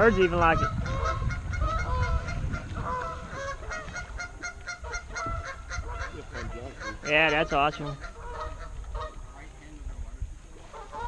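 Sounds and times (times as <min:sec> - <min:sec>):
geese honking: 0:00.0 - 0:09.5, 0:10.6 - 0:11.0.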